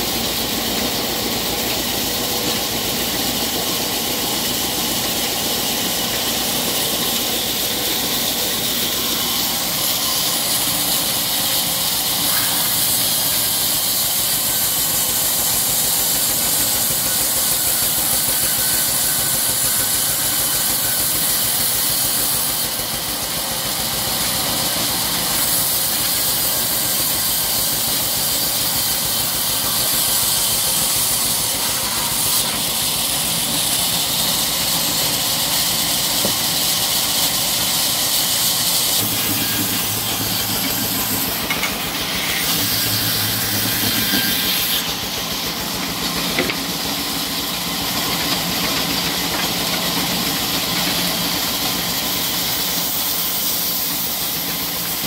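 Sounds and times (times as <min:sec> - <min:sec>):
bandsaw cutting through log: 0:00.0 - 0:55.0.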